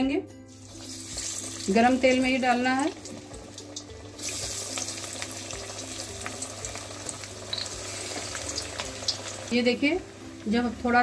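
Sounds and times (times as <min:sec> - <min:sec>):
oil sizzling and crackling: 0:00.5 - 0:11.0.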